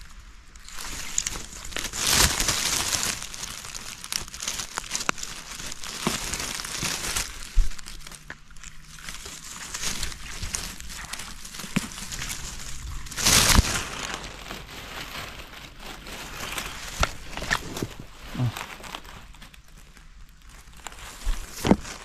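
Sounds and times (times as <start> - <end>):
leaf litter rustling: 0.0 - 22.0
twigs snapping: 0.6 - 22.0.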